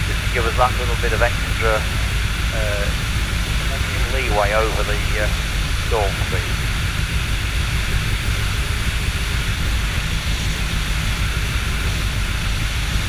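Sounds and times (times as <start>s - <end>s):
motor glider engine drone: 0.0s - 13.0s.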